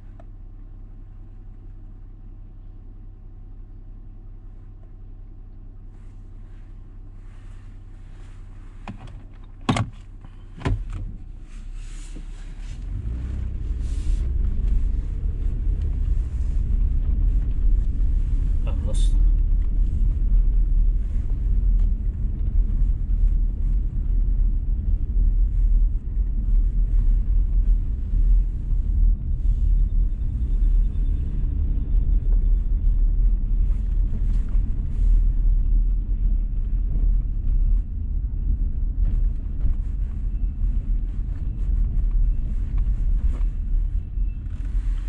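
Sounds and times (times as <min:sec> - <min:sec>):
engine and tyres rumbling: 0:00.0 - 0:45.0.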